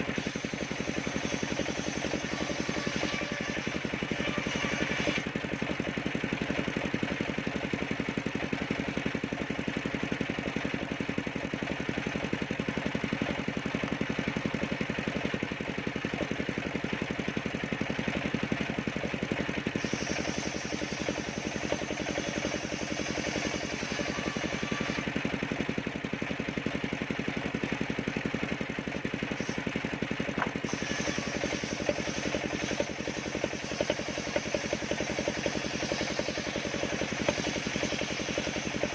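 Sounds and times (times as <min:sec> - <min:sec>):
small sawmill engine running: 0:00.0 - 0:38.9.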